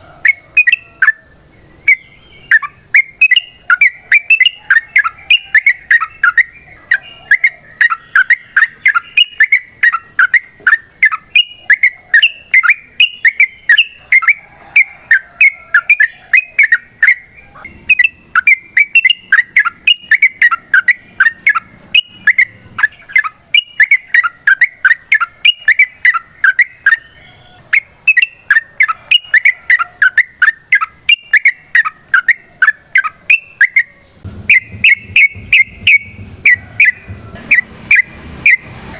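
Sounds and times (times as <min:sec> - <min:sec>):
bird chattering song: 0:00.0 - 0:38.7.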